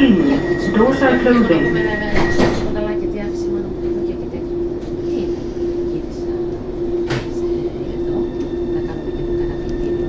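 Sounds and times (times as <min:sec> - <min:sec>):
high electric whine: 0:00.0 - 0:10.0
train interior hum: 0:00.0 - 0:10.0.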